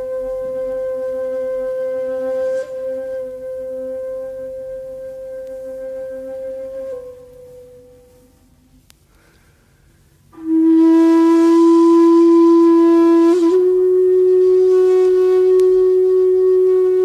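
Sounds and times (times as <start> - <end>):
solo flute long low note: 0.0 - 8.9, 10.2 - 17.0.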